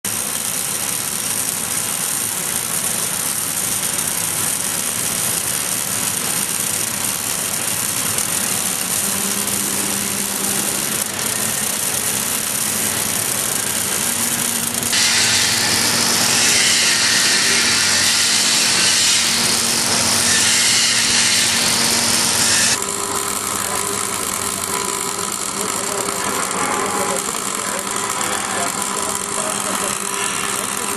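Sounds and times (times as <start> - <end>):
welding arc hissing: 0.1 - 30.9.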